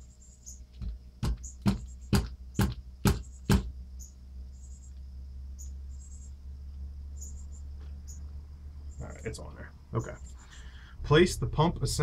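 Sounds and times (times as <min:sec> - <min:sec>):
crickets chirping: 0:00.0 - 0:12.0
steady low hum: 0:00.0 - 0:12.0.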